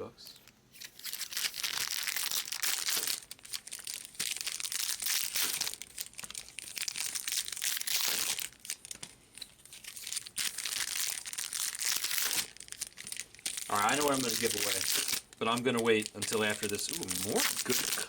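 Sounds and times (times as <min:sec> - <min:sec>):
wrappers crinkling and tearing: 0:00.7 - 0:18.0.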